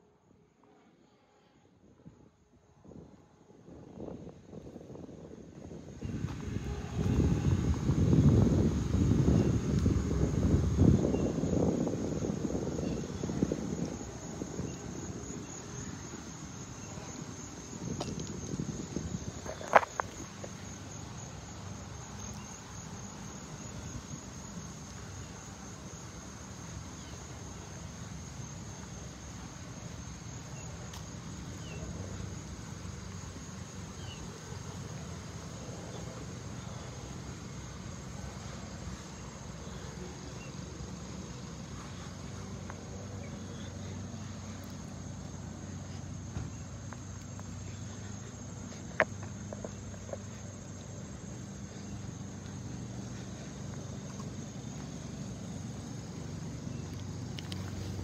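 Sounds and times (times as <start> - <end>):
insects buzzing: 0.2 - 58.0.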